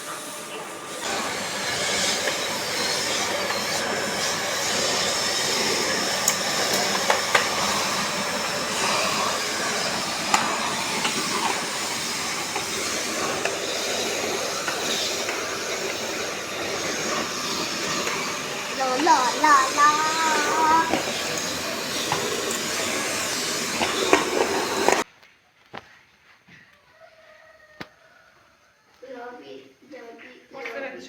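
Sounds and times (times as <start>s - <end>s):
steady rushing hiss: 0.0s - 25.1s.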